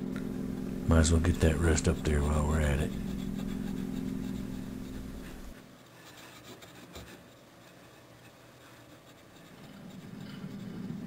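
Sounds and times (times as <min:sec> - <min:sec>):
low steady hum: 0:00.0 - 0:11.0
rubbing and scratching on metal: 0:00.9 - 0:11.0.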